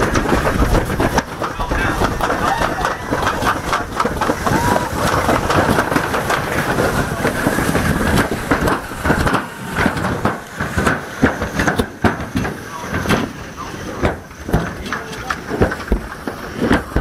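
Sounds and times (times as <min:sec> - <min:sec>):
sled rattling down metal chute: 0:00.0 - 0:17.0.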